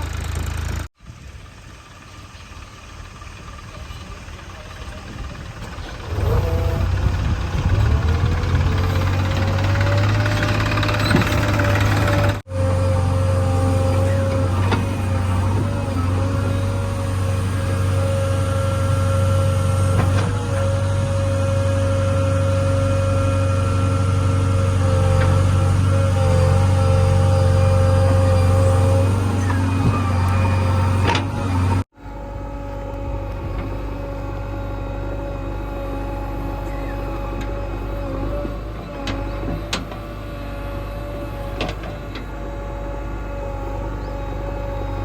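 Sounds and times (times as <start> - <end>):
diesel engine revving: 0.0 - 0.9, 3.0 - 45.0.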